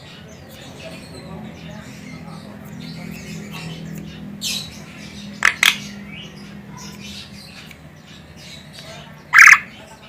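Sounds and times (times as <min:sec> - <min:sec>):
myna bird calling: 0:00.0 - 0:10.0
low steady hum: 0:00.1 - 0:09.9.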